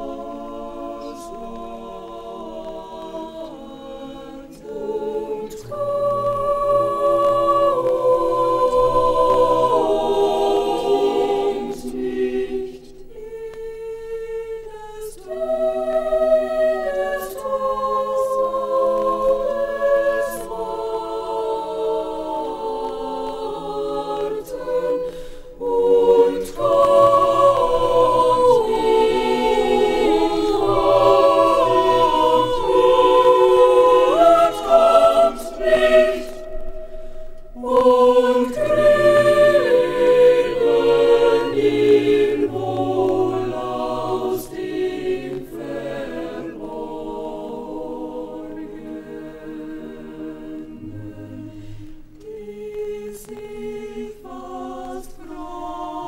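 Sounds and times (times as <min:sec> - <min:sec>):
choir singing sustained chords: 0:00.0 - 0:56.0.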